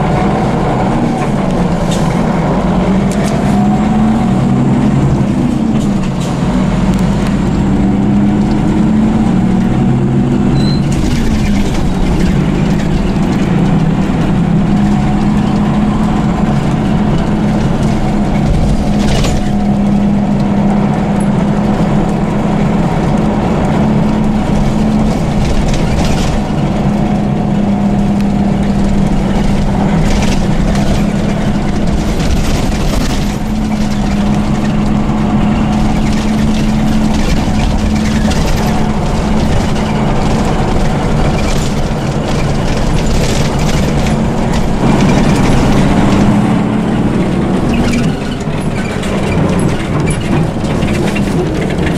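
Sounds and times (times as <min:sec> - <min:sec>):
bus diesel engine drone: 0:00.0 - 0:51.9
knocks and rattles: 0:00.0 - 0:51.9.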